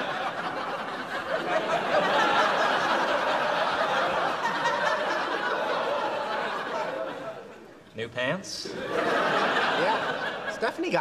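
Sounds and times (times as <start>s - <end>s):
studio audience laughing: 0.0s - 7.6s, 8.6s - 11.0s.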